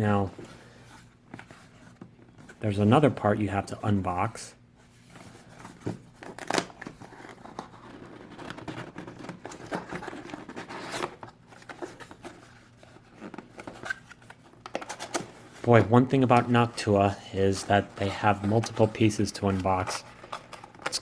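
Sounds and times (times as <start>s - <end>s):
cardboard rustling and scraping: 0.1s - 21.0s.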